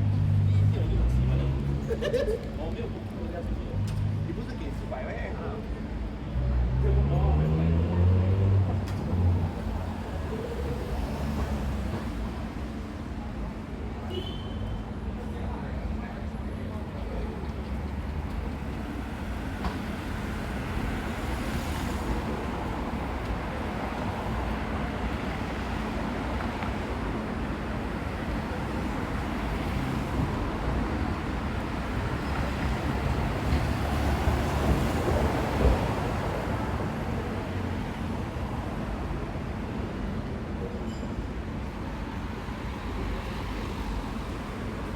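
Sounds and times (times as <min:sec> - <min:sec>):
road traffic passing: 0:00.0 - 0:14.2, 0:15.0 - 0:44.9.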